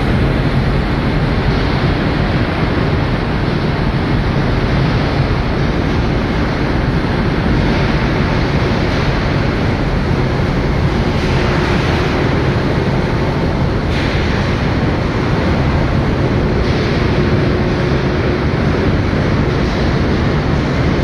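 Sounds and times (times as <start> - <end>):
engine room machinery running: 0.0 - 21.0.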